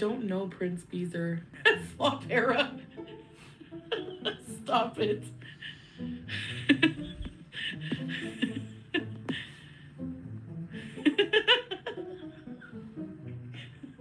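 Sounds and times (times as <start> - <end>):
background music: 0.0 - 14.0
woman laughing: 1.6 - 9.7, 10.8 - 14.0.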